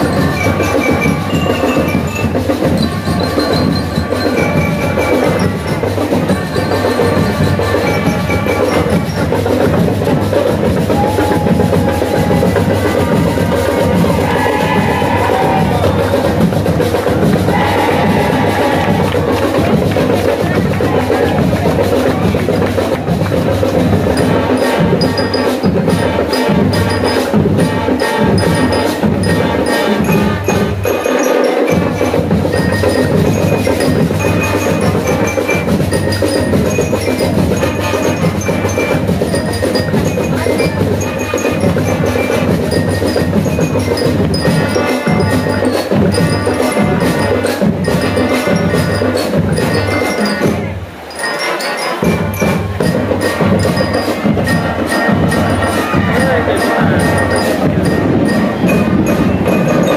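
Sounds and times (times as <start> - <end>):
bell lyres ringing a melody: 0.0 - 22.4, 23.6 - 59.9
brass instruments: 0.0 - 59.9
marching band playing: 0.0 - 59.9
steady drum beat: 0.0 - 59.9.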